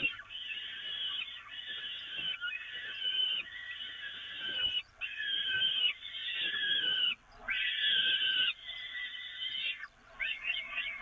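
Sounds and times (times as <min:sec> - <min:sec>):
falcon chicks begging calls: 0:00.0 - 0:11.0.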